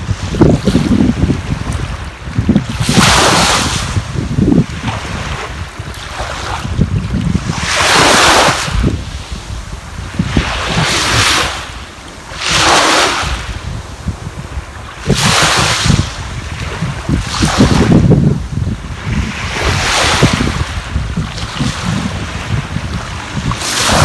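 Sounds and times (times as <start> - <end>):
sea waves washing onto shore: 0.0 - 24.0
wind buffeting microphone: 0.0 - 24.0.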